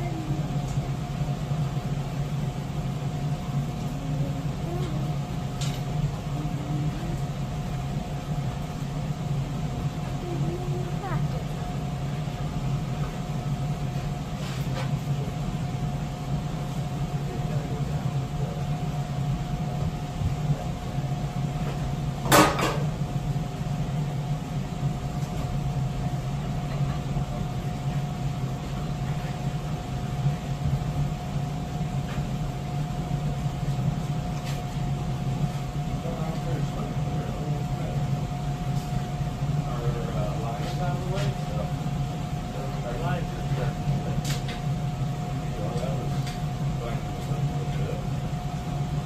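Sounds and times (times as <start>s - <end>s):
low mechanical hum: 0.0s - 49.0s.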